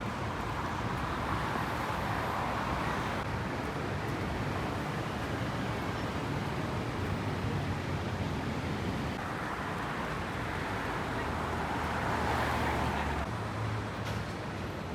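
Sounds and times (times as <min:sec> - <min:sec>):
city road traffic: 0:00.0 - 0:14.9.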